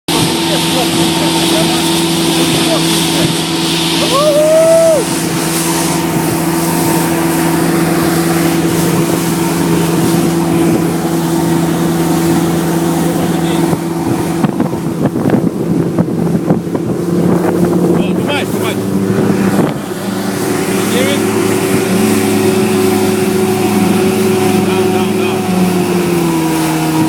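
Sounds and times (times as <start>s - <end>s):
boat motor droning: 0.1s - 27.0s
wind buffeting microphone: 0.1s - 27.0s.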